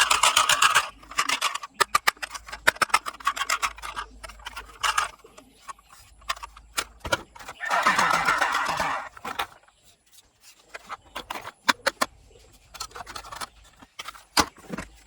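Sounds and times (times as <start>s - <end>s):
plastic toy vehicles clattering: 0.0s - 15.0s.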